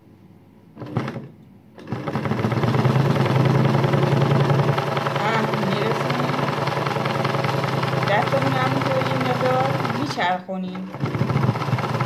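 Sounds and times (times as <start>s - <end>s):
sewing machine running: 0.8s - 12.0s.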